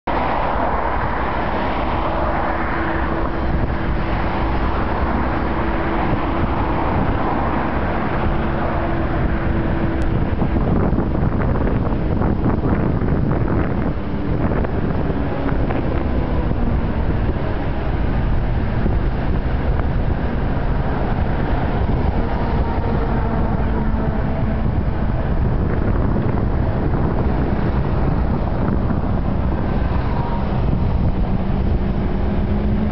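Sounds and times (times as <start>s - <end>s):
road traffic: 0.0s - 32.9s
engine hum: 0.1s - 32.9s
wind rumbling on microphone: 0.1s - 32.9s.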